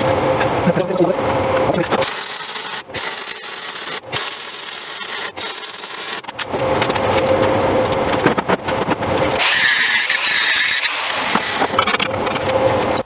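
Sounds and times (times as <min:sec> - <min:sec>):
angle grinder grinding steel: 0:01.9 - 0:13.0.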